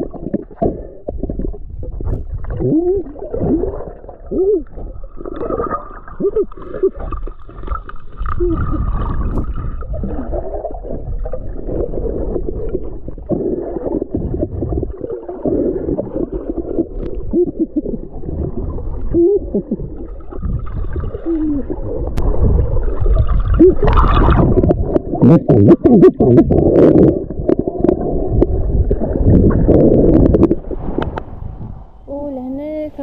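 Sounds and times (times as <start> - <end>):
underwater sloshing and gurgling: 0.0 - 32.1.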